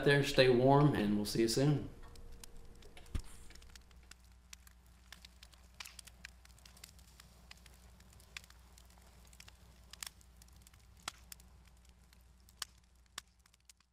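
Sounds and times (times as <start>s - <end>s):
fire crackling and popping: 0.0s - 13.9s.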